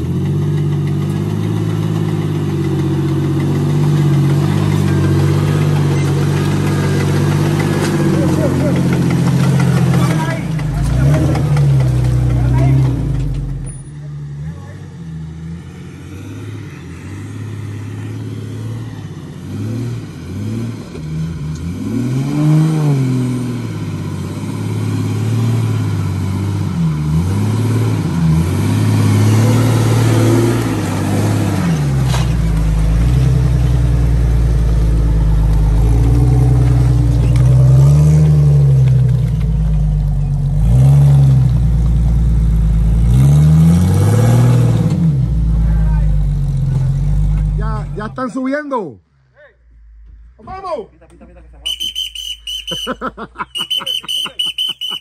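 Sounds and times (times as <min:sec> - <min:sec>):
car engine revving: 0:00.0 - 0:48.2.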